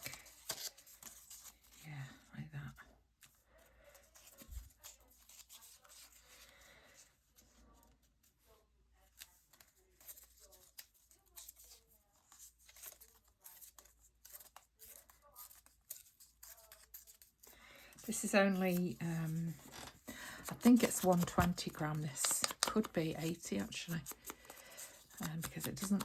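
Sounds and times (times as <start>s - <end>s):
paper handling ticks and rustles: 0.0s - 1.8s, 3.2s - 6.6s, 7.3s - 26.0s.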